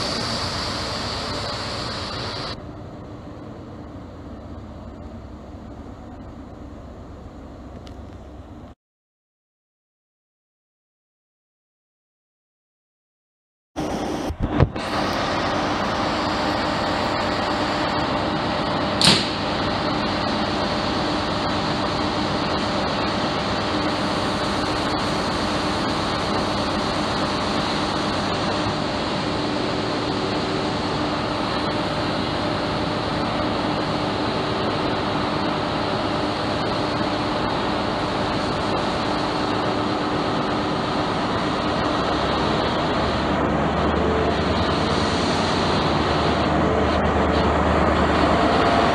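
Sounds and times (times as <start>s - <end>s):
diesel train engine idling: 0.0s - 8.8s, 14.7s - 48.9s.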